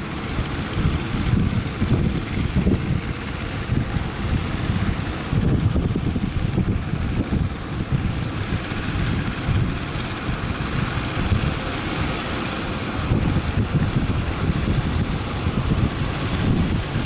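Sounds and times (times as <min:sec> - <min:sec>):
waves and surf: 0:00.0 - 0:17.0
wind buffeting microphone: 0:00.0 - 0:17.0.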